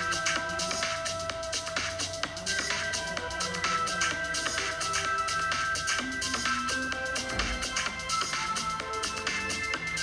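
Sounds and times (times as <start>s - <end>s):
background music with a beat: 0.0s - 10.0s.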